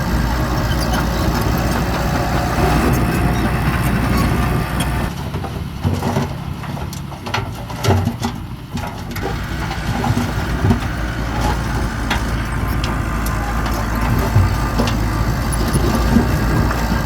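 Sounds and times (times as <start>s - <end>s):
diesel engine running: 0.0s - 17.0s
metallic clanks and knocks: 0.4s - 17.0s.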